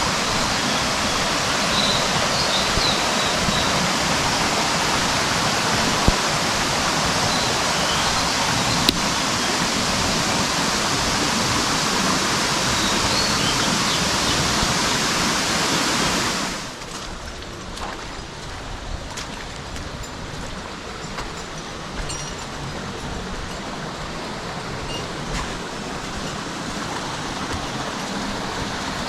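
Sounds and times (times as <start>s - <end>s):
mountain stream rushing: 0.0s - 29.0s.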